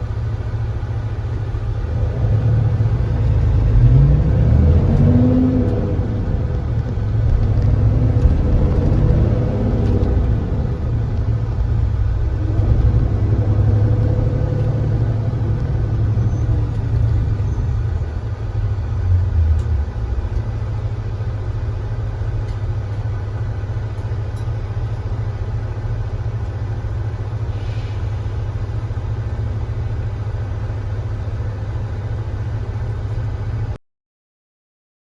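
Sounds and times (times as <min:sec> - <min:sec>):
coach engine rumbling: 0:00.0 - 0:33.8.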